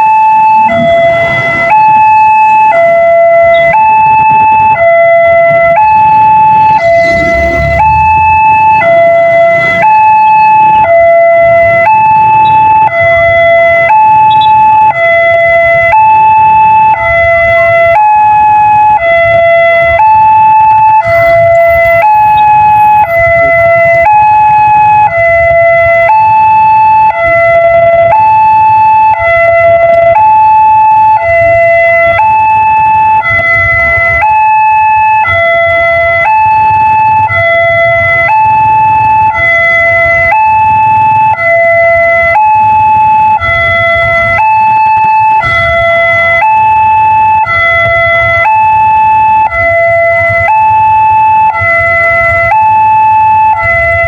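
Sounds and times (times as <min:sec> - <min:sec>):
two-tone crossing siren: 0:00.0 - 0:54.0.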